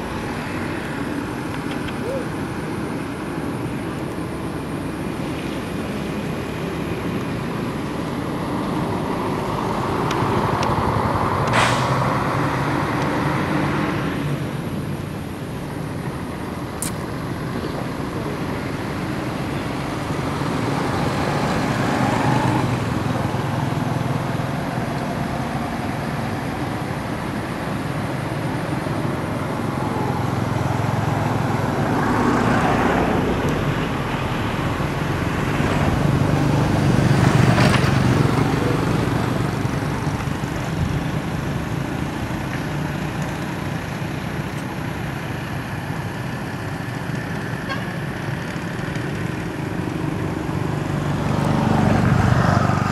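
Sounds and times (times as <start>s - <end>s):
road traffic noise: 0.0s - 52.9s
vehicles passing: 0.0s - 52.9s.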